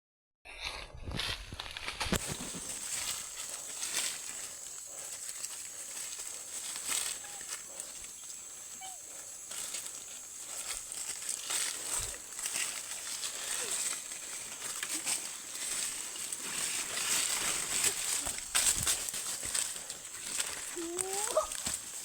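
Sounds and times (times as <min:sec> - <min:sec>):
rustles and clicks: 0:00.6 - 0:22.0.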